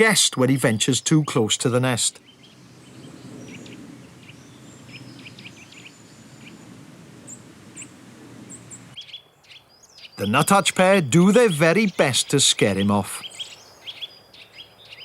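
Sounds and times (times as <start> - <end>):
low background noise: 0.0 - 15.0
nuthatch alarm calls: 0.8 - 15.0.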